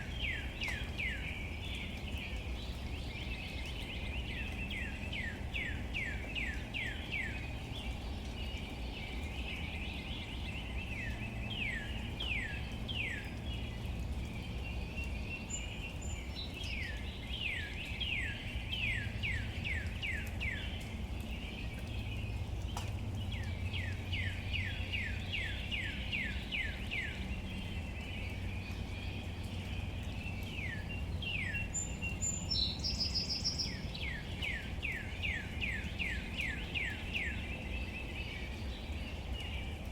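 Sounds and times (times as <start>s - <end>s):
outdoor ambience hiss: 0.0s - 39.9s.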